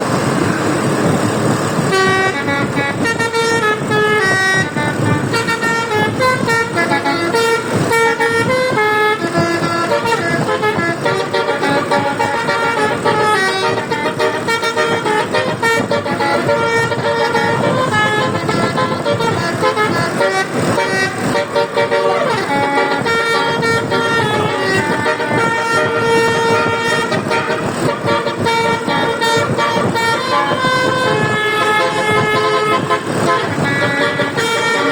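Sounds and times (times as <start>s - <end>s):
multi-tone bus horn tune: 0.0s - 34.9s
vehicle noise: 0.0s - 34.9s.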